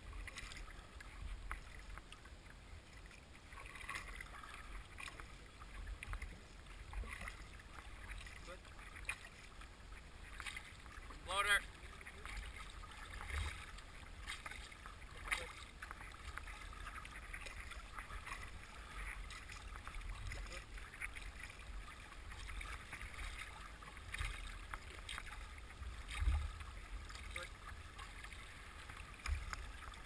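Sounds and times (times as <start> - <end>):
water rushing along boat hull: 0.0 - 30.0.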